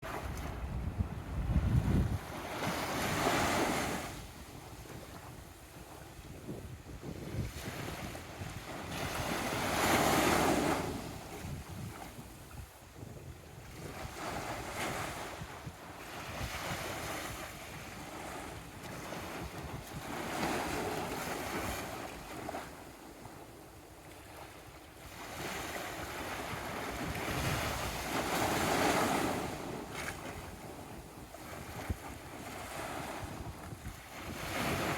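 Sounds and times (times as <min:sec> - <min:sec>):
sea waves breaking on shore: 0:00.0 - 0:34.9
wind buffeting microphone: 0:00.0 - 0:34.9.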